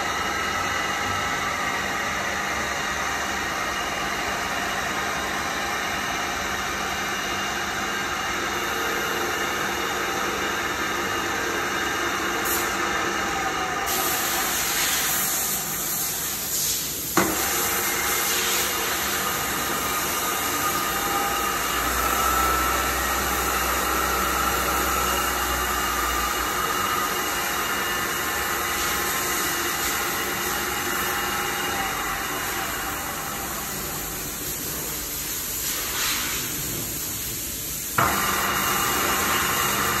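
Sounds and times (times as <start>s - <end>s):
milling machine whirring: 0.0s - 16.4s, 17.1s - 34.7s, 38.0s - 40.0s.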